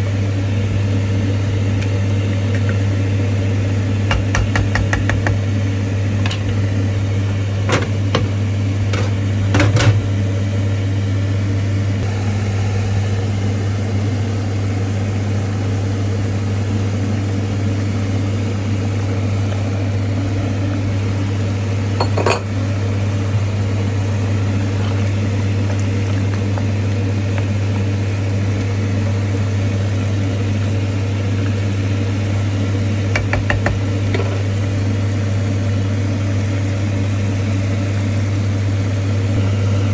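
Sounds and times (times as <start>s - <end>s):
kitchen appliance humming: 0.0s - 39.9s.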